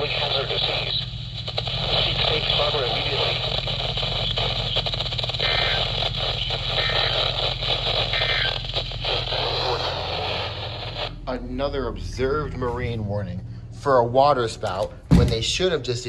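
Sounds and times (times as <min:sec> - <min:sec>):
radio static hissing and crackling: 0:00.0 - 0:13.7
low hum: 0:00.1 - 0:16.0.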